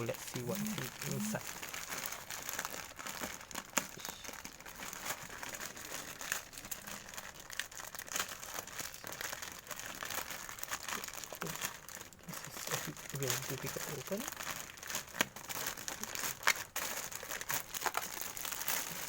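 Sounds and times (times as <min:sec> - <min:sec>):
parcel packaging crinkling: 0:00.0 - 0:19.0.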